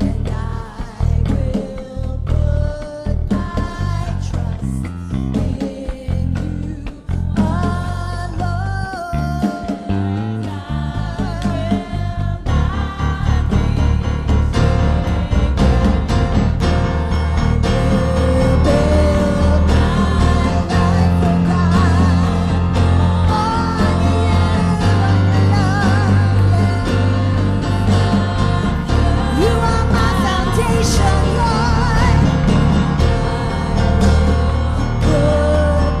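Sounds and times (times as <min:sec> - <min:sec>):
women singing with vibrato: 0:00.0 - 0:16.5, 0:17.1 - 0:36.0
keyboard and band playing: 0:00.0 - 0:36.0
low bass notes: 0:00.0 - 0:36.0.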